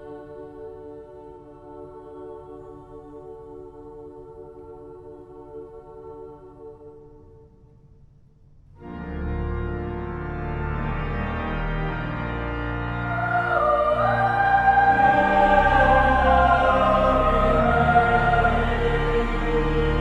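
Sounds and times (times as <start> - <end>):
organ and choir church music: 0.0 - 7.2, 8.8 - 20.0.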